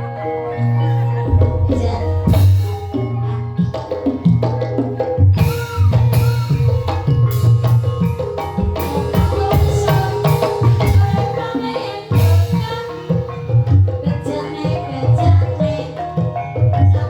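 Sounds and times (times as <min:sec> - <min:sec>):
hand drums playing: 0:00.0 - 0:17.0
tuned percussion ringing: 0:00.0 - 0:17.0.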